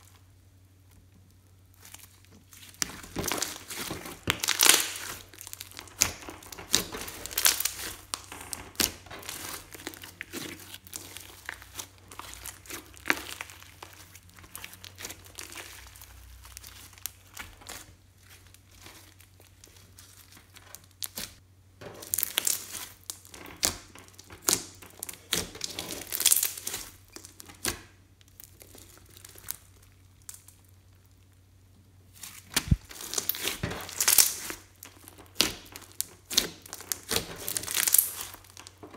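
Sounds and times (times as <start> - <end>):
wet crackles and pops: 0.9 - 21.4, 22.0 - 31.5, 32.2 - 38.9
hands squishing slime: 1.7 - 21.4, 22.0 - 30.7, 32.1 - 38.9.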